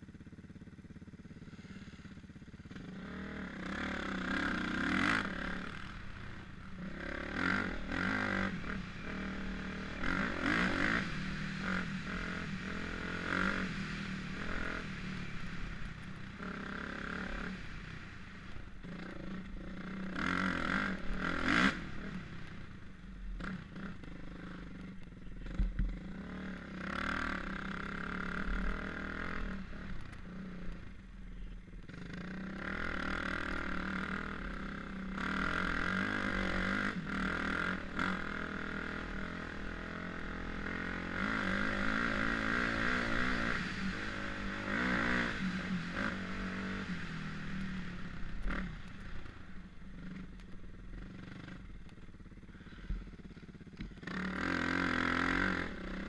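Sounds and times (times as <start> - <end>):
dirt bike engine revving: 1.2 - 56.0.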